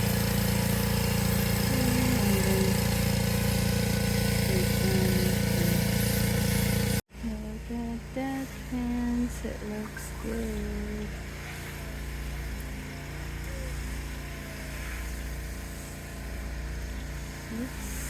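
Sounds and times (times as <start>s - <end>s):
engine pulsing hum: 0.0s - 18.0s.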